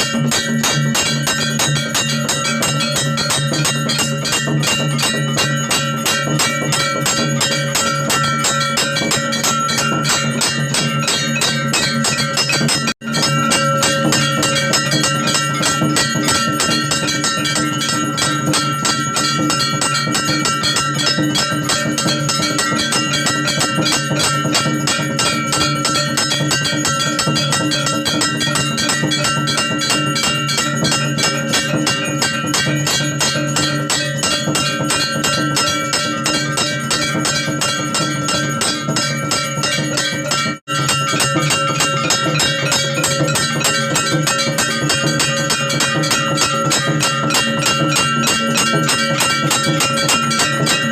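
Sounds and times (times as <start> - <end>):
bells rung rapidly: 0.0 - 50.9
drumming: 0.0 - 50.9.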